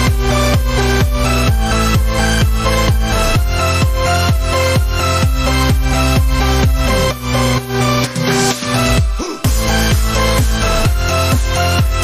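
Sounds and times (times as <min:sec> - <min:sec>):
kick drum beat: 0:00.0 - 0:07.0, 0:09.0 - 0:12.0
electronic dance music: 0:00.0 - 0:12.0.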